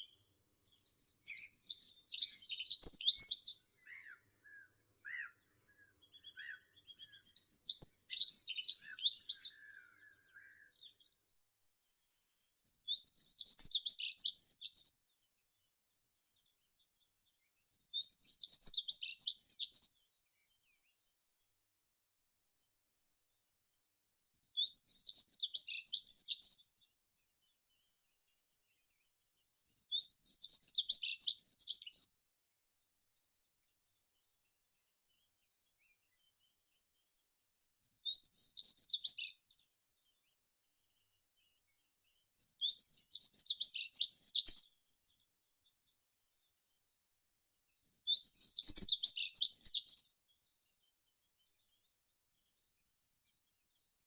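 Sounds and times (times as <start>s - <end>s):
small songbird singing: 0.0s - 54.0s.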